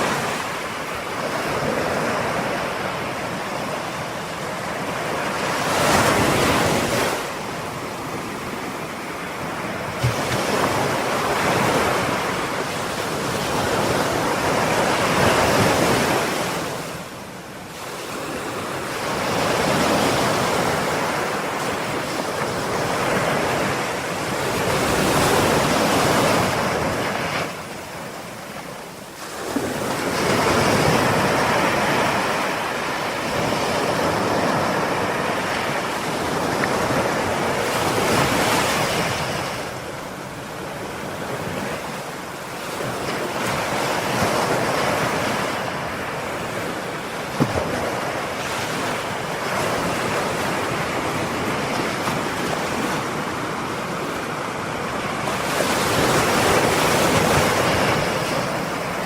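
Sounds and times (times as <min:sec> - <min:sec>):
ocean waves breaking on shore: 0:00.0 - 0:59.0
wind: 0:00.0 - 0:59.0.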